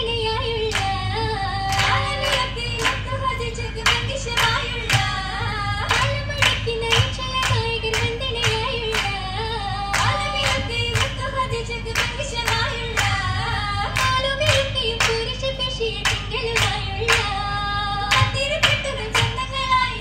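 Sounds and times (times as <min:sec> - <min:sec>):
girls singing together: 0:00.0 - 0:20.0
hands clapping in rhythm: 0:00.7 - 0:01.1, 0:01.7 - 0:17.5, 0:18.1 - 0:19.6.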